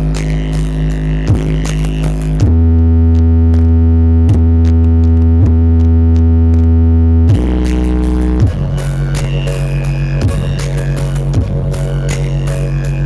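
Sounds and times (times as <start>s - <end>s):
deep synthesizer bass notes: 0.0s - 13.0s.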